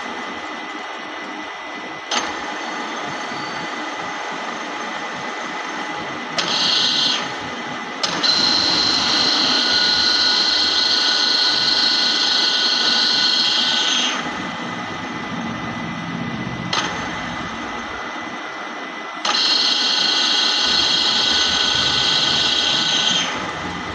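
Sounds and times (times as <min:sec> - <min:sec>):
high machine whine: 0:00.0 - 0:23.9
milling machine whirring: 0:00.0 - 0:23.9.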